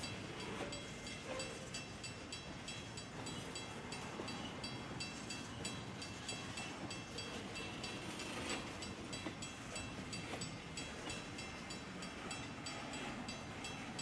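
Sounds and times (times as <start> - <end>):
crossing bell ringing: 0.0 - 14.0
train wheels on rails: 0.0 - 14.0.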